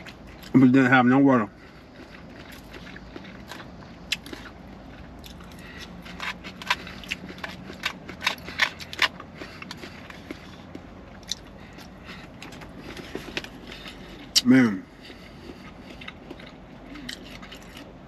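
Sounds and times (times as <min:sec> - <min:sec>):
person chewing food: 0:00.0 - 0:00.6, 0:01.5 - 0:18.0.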